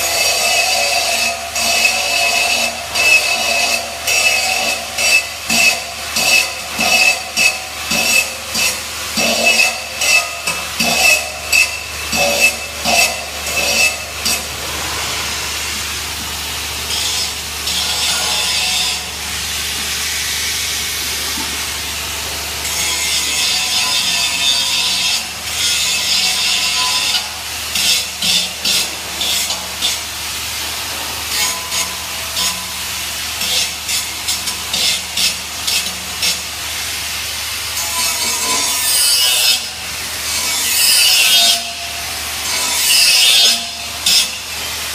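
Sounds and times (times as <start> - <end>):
welding arc crackling hiss: 0.0 - 44.9.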